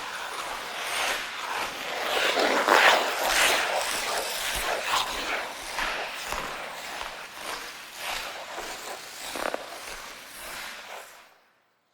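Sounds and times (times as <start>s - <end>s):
ice skate blades scraping ice: 0.0s - 11.3s.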